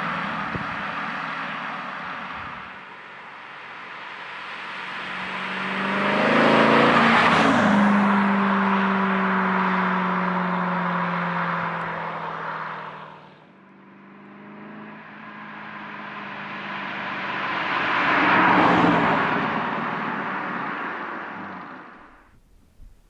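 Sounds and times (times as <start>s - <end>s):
car engine pulling away: 0.0s - 23.0s
car passing by: 0.0s - 23.0s.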